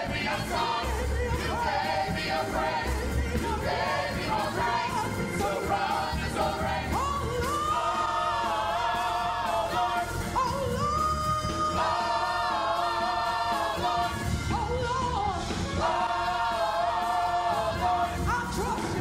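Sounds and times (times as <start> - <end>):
group singing gospel with instruments: 0.0 - 19.0.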